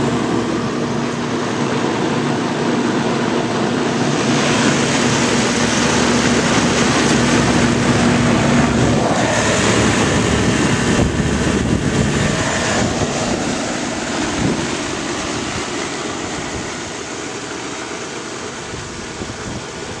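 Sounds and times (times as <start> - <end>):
low hum: 0.0 - 20.0
whooshing blower noise: 0.0 - 20.0.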